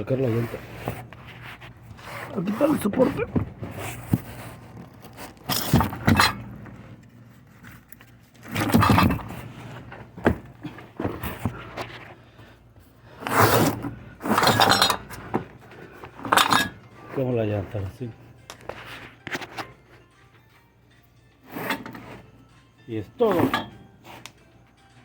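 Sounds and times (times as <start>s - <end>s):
metal clanking and scraping: 0.0s - 12.2s, 13.1s - 19.8s, 21.4s - 22.4s, 23.2s - 24.3s.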